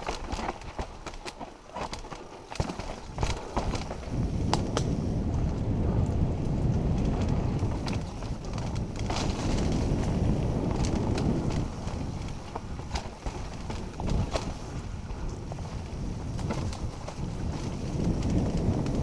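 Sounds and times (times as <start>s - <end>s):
bike knocking on rocks: 0.0s - 5.5s, 6.4s - 19.0s
bike tyres rumbling on dirt: 0.0s - 19.0s.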